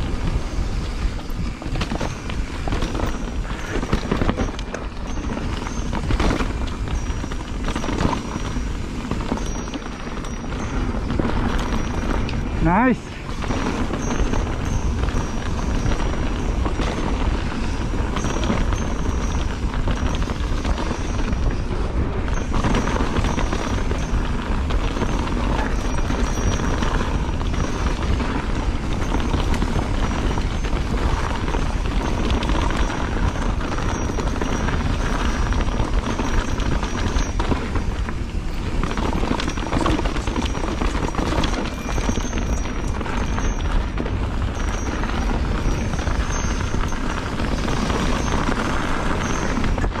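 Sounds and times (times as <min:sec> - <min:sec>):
bike tyres on dirt trail: 0:00.0 - 0:50.0
wind buffeting microphone: 0:00.0 - 0:50.0.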